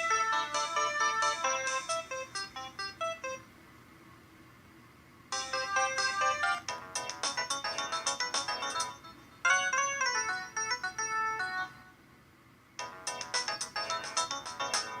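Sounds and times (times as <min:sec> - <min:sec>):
phone ringtone melodies: 0:00.0 - 0:03.5, 0:05.4 - 0:11.9, 0:12.8 - 0:15.0.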